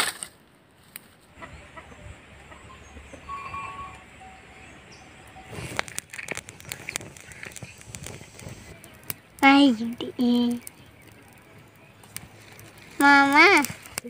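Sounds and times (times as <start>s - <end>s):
wood fire crackling: 0.0s - 14.0s
low wind rumble: 0.4s - 14.0s
faint bird calls: 1.3s - 13.4s.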